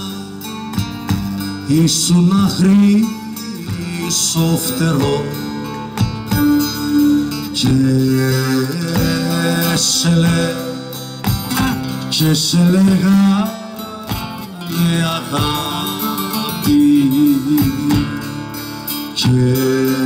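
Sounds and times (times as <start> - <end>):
plucked strings strumming: 0.0 - 20.0.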